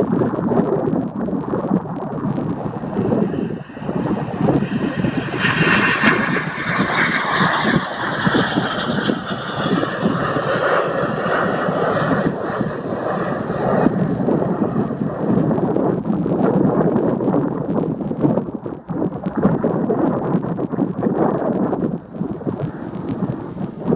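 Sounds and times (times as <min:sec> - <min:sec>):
jet engine rush with whine: 0:00.0 - 0:19.5, 0:20.6 - 0:23.9.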